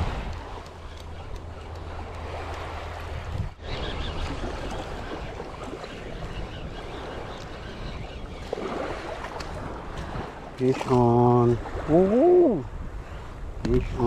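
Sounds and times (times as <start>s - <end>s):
small waves washing: 0.0s - 14.0s
wind: 0.0s - 14.0s.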